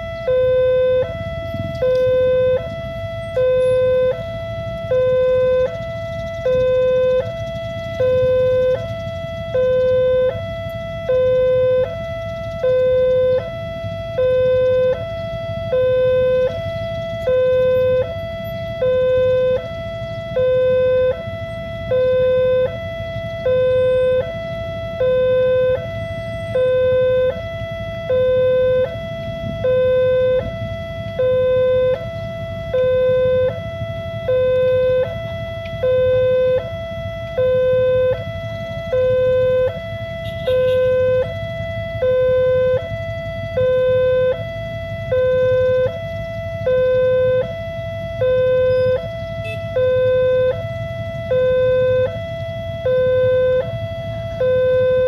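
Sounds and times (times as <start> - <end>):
level crossing two-tone alarm: 0.0 - 55.0.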